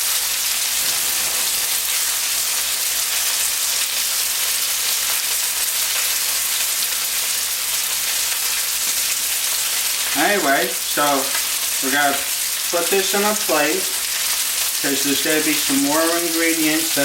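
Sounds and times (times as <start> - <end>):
chicken frying in a pan: 0.0 - 17.0.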